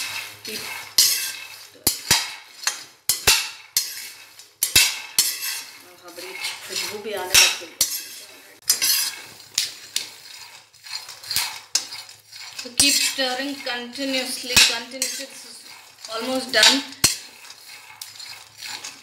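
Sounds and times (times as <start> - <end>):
nuts rattling against pan: 0.0 - 19.0
spatula scraping peanuts in pan: 0.0 - 19.0
spatula clinking on metal pan: 0.6 - 19.0.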